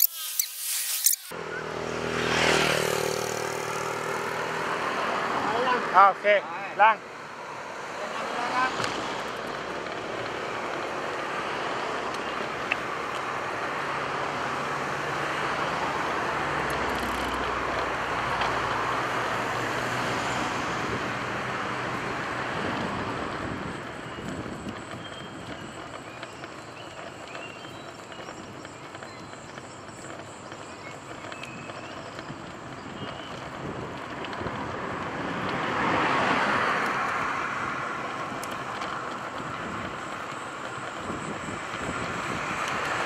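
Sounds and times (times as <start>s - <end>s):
passing cars: 0.0s - 43.0s.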